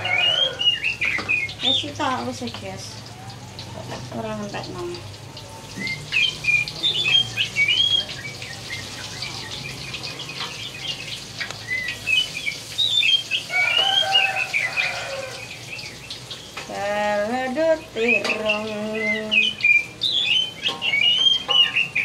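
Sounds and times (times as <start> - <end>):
food sizzling in a wok: 0.0 - 22.0
small birds chirping: 0.0 - 22.0.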